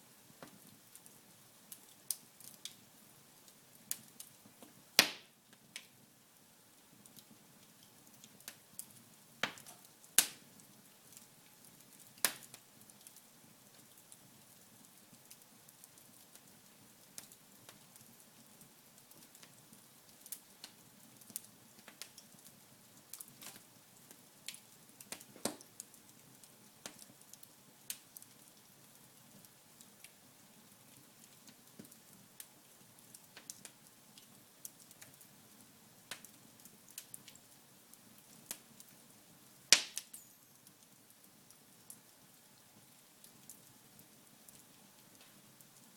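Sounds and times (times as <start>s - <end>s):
faint low hiss: 0.0s - 45.9s
wood fire crackling and popping: 0.2s - 45.9s.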